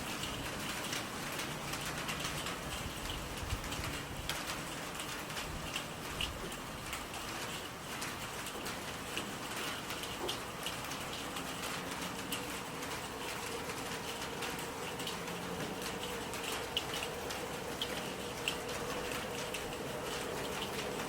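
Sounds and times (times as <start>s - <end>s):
loud raindrops striking close: 0.0s - 21.0s
steady rain falling: 0.0s - 21.0s.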